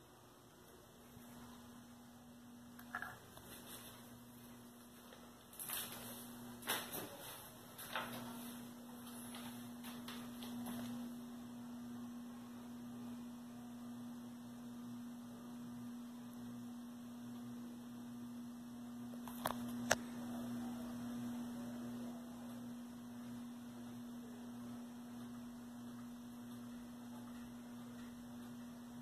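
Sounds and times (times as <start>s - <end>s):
ceiling fan motor humming: 0.0s - 29.0s.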